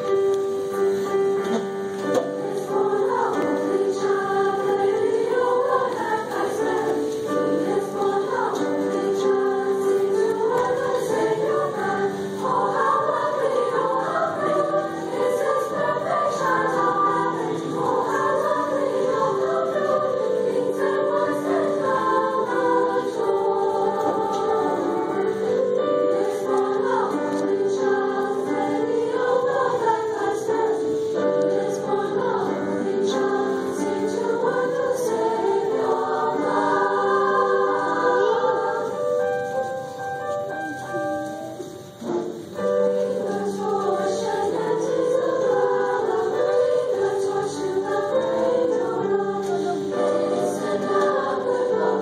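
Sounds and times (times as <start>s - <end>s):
women's choir singing: 0.0s - 52.0s.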